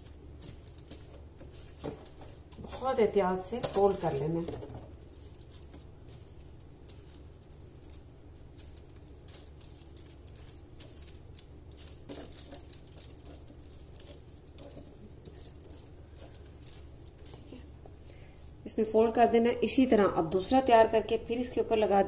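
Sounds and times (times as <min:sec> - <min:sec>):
foil crinkling: 0:00.0 - 0:18.2
low steady hum: 0:00.0 - 0:22.0.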